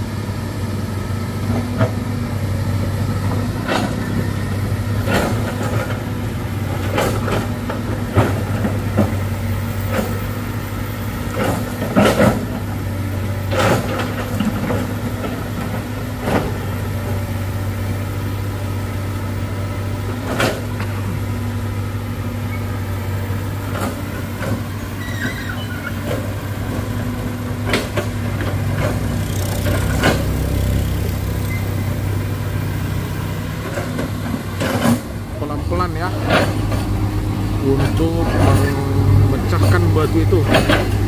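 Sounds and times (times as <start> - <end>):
diesel excavator engine running: 0.0 - 41.0.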